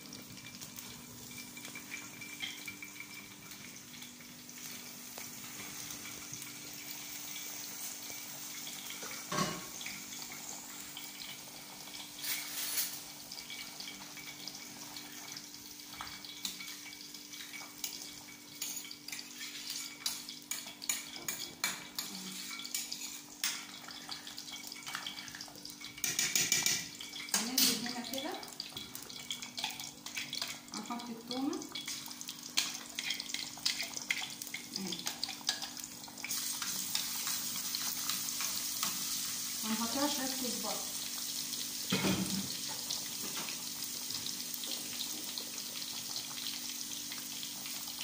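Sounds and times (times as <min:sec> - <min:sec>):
pot boiling and bubbling: 0:00.0 - 0:48.0.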